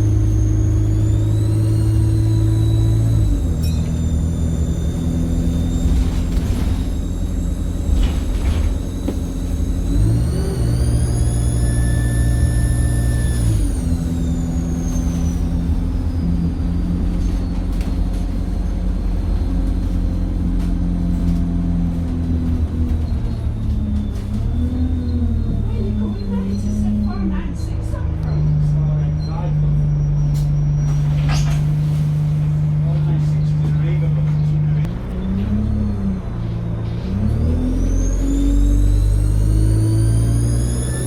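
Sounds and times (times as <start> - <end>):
bus engine running: 0.0 - 41.0.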